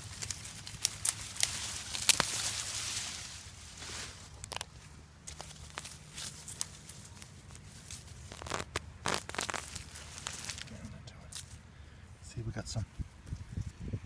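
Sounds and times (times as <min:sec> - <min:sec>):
soil and plants crunching: 0:00.0 - 0:11.6.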